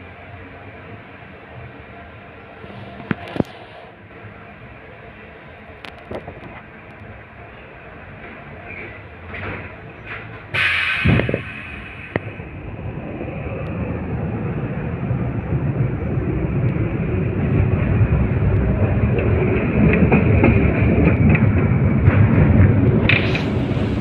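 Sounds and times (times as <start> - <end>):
tram wheels rumbling on rails: 0.0 - 24.0.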